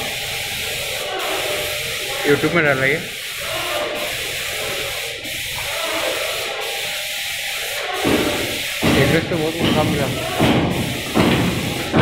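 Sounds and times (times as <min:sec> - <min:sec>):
paint spray gun hissing: 0:00.0 - 0:12.0.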